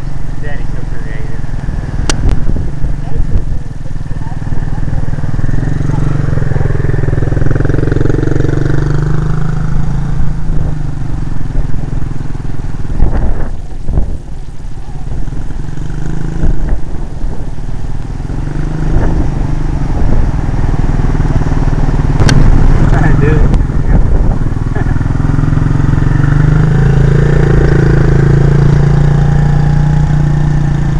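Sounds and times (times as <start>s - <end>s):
dirt bike engine running: 0.0s - 30.9s.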